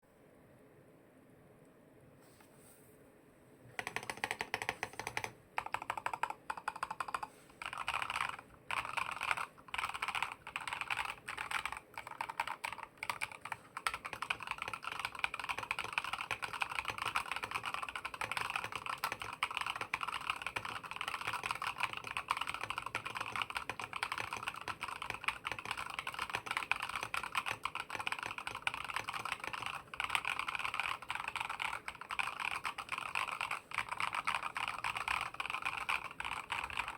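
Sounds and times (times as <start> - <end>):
mechanical keyboard typing: 3.7 - 36.9.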